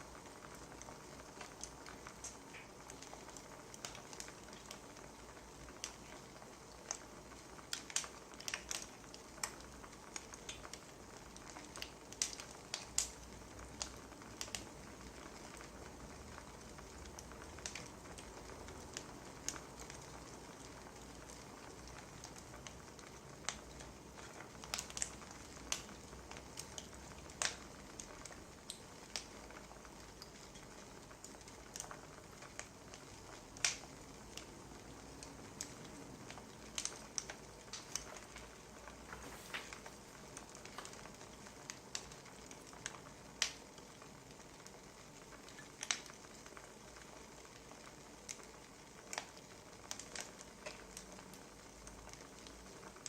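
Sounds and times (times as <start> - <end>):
faint steady hiss: 0.0 - 53.0
wood fire crackling: 0.0 - 53.0
sharp pops and snaps: 0.2 - 53.0.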